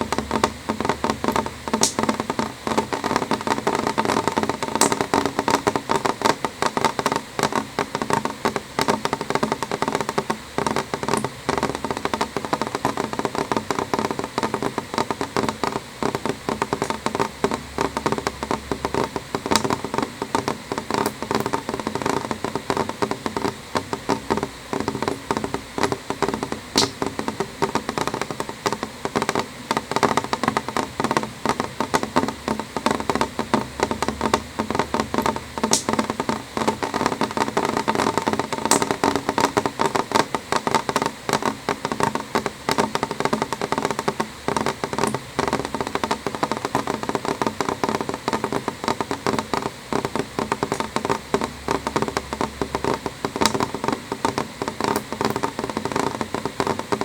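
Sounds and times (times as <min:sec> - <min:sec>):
rain tapping on window glass: 0:00.0 - 0:57.0.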